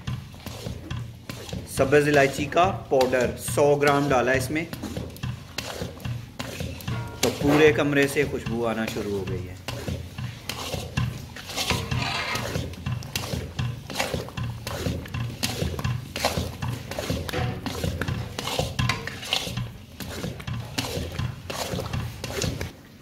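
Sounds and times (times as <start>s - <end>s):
spatula scraping a pan: 0.0s - 22.8s.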